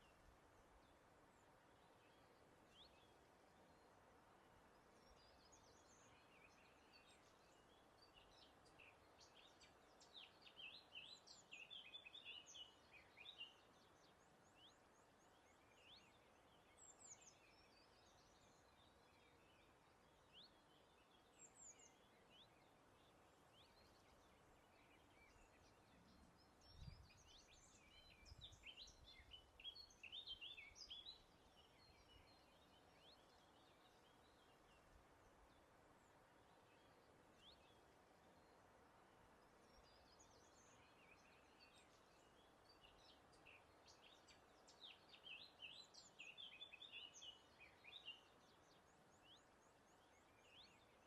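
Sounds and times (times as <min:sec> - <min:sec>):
faint breeze hiss: 0:00.0 - 0:51.0
small birds chirping and trilling: 0:00.0 - 0:51.0.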